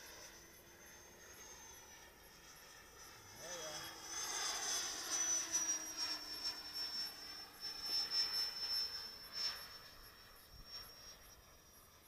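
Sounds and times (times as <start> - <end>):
model jet engine whine: 0.0 - 12.0.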